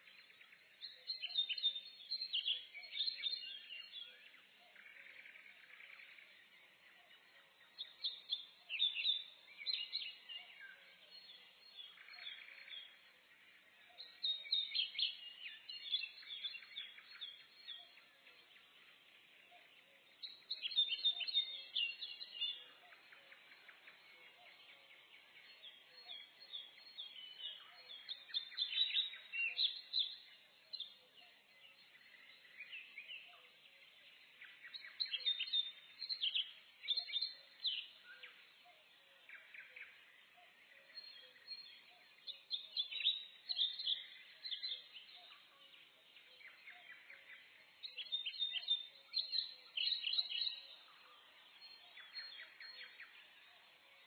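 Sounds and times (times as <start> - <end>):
faint steady background noise: 0.0 - 54.0
songbirds chirping and trilling: 0.0 - 54.0.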